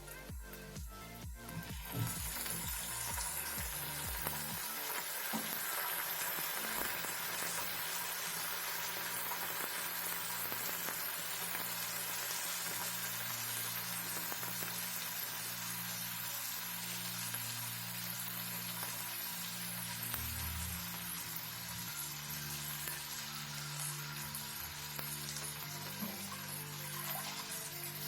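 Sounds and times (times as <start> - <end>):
soft background music: 0.0 - 28.0
onions sizzling in oil: 0.4 - 28.0.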